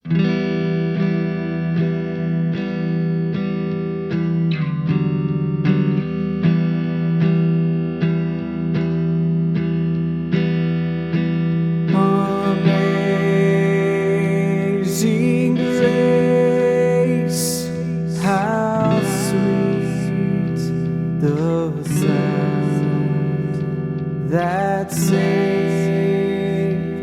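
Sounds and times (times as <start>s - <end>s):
guitar with effects picking notes: 0.0s - 27.0s.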